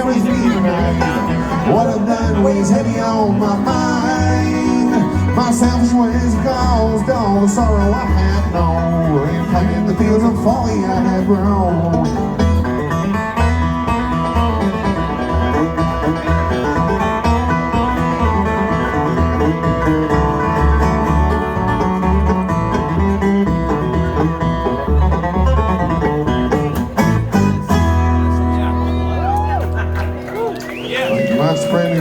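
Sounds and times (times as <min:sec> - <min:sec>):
acoustic guitar strumming: 0:00.0 - 0:29.2
banjo: 0:00.0 - 0:30.5
bluegrass band playing: 0:00.0 - 0:32.0.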